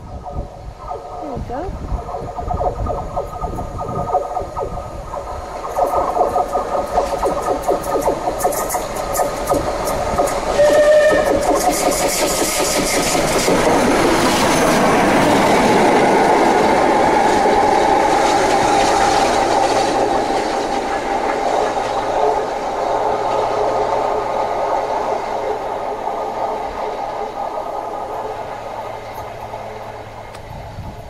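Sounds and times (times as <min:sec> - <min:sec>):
steam locomotive passing at speed: 0:00.0 - 0:31.0
wheels clattering over rail joints: 0:01.8 - 0:31.0.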